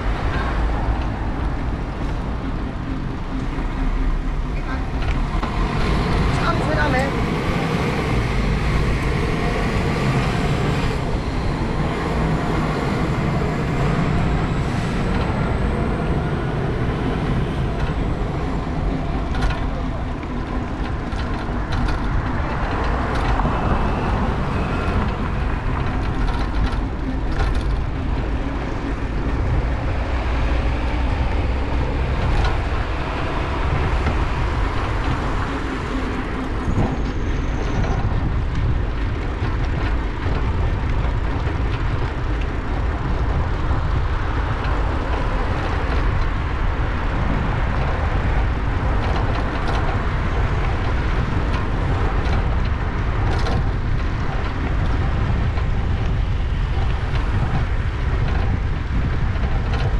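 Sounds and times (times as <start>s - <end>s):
bicycle rattles and clicks: 0.0s - 59.9s
bicycle tyres rolling on path: 0.0s - 59.9s
road traffic: 0.0s - 59.9s
wind on microphone: 0.0s - 59.9s.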